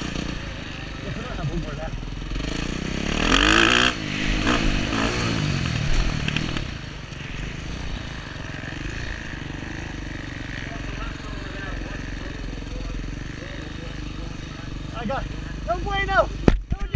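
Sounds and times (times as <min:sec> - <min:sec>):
dirt bike engine revving: 0:00.0 - 0:16.7.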